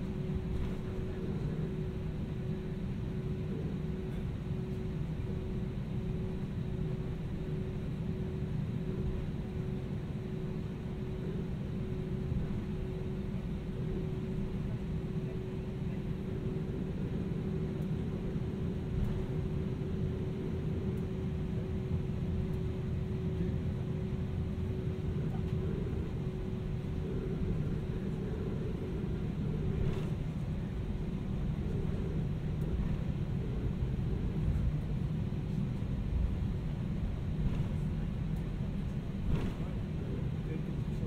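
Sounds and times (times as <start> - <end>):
aircraft cabin rumble: 0.0 - 41.0.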